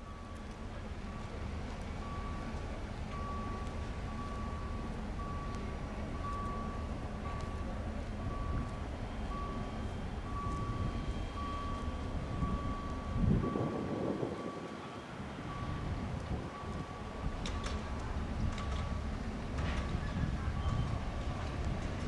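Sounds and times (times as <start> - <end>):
continuous low rumble: 0.0 - 22.0.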